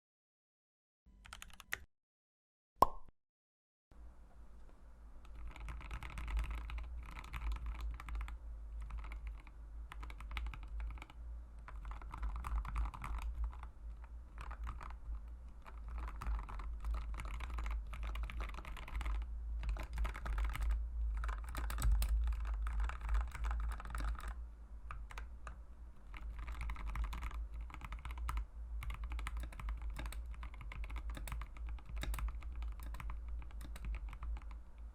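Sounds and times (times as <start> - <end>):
fast typing on mechanical keyboard: 1.2 - 1.8, 5.2 - 34.6.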